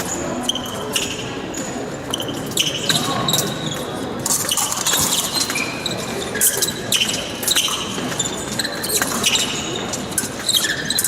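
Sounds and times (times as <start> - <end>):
shoes squeaking on floor: 0.1 - 11.0.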